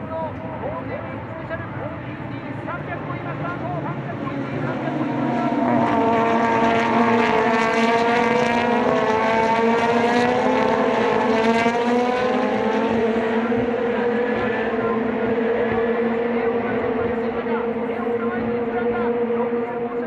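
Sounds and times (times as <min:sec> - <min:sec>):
race car engine running: 0:00.0 - 0:20.0.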